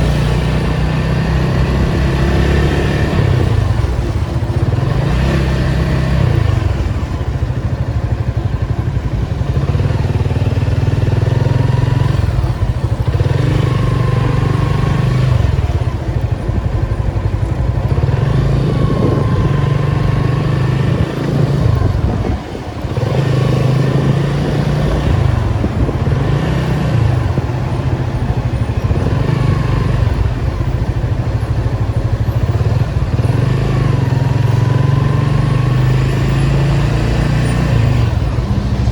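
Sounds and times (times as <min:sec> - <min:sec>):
car engine in traffic: 0:00.0 - 0:38.9.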